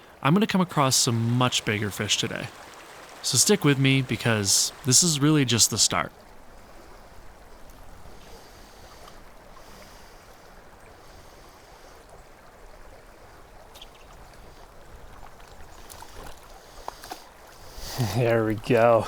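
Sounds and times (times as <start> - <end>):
stream flowing over rocks: 0.0 - 19.0.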